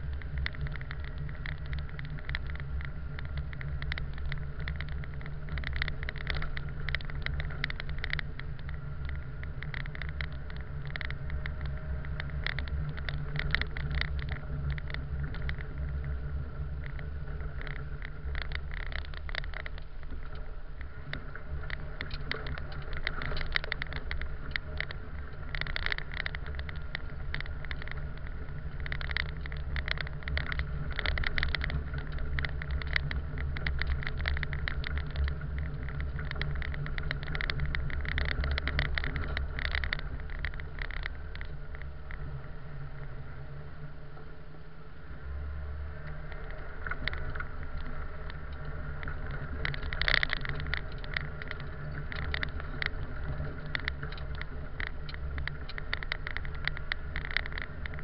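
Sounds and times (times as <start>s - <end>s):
car engine and road drone: 0.0s - 58.0s
snow crackling under tyres: 0.0s - 58.0s.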